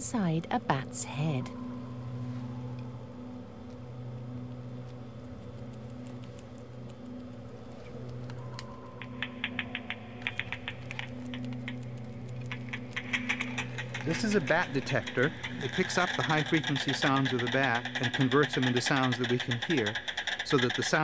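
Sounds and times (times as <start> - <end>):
low electrical hum: 0.0 - 20.1
bat echolocation clicks: 3.6 - 21.0.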